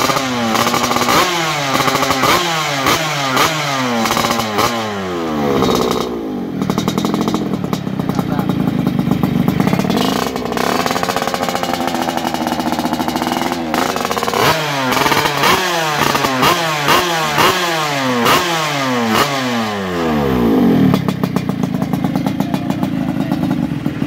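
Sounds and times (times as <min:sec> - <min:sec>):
motorcycle idling and revving: 0:00.0 - 0:24.0.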